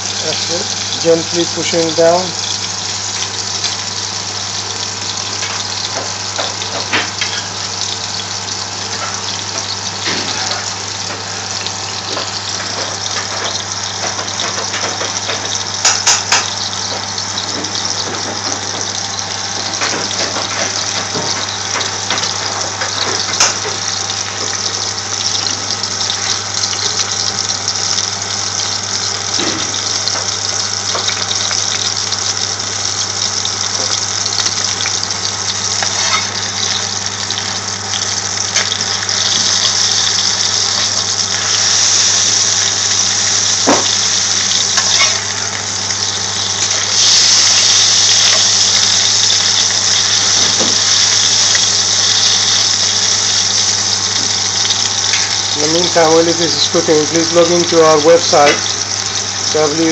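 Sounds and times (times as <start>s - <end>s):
patties sizzling in a frying pan: 0.0s - 59.9s.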